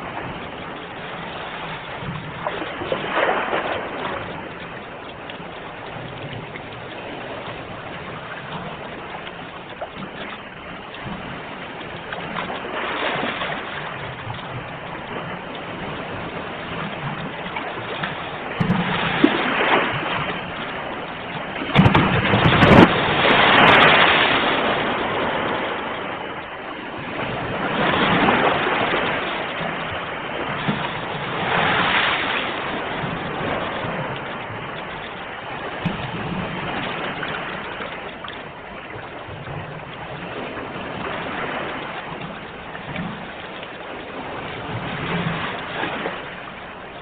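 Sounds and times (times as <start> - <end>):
sea waves breaking: 0.0 - 47.0.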